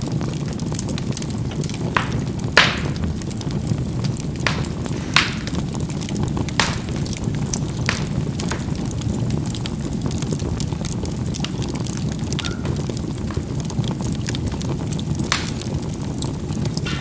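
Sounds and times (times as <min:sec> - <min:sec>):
charcoal fire crackling: 0:00.0 - 0:17.0.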